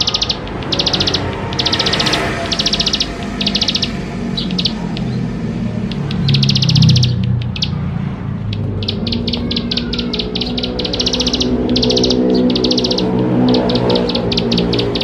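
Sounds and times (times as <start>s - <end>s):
bird high trills: 0.0s - 15.0s
low hum: 0.0s - 15.0s.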